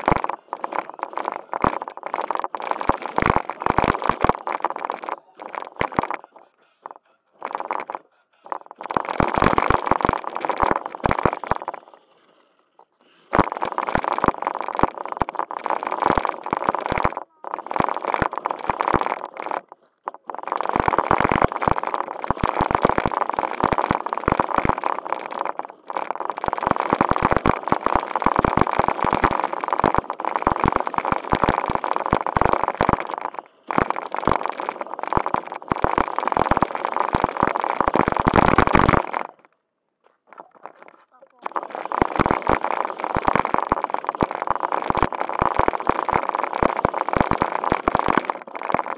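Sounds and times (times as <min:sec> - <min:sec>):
plastic bag crackling: 0:00.0 - 0:06.4, 0:07.4 - 0:11.8, 0:13.3 - 0:39.4, 0:40.2 - 0:48.9
toy car motors and gears: 0:00.0 - 0:12.0, 0:12.8 - 0:39.4, 0:40.3 - 0:48.9.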